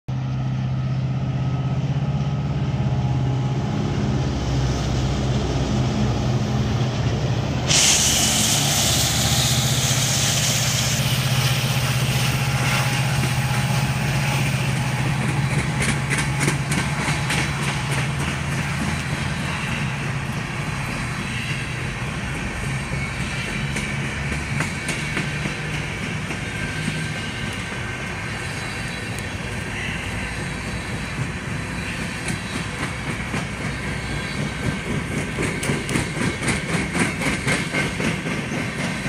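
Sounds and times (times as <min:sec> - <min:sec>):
locomotive engine drone: 0:00.1 - 0:39.0.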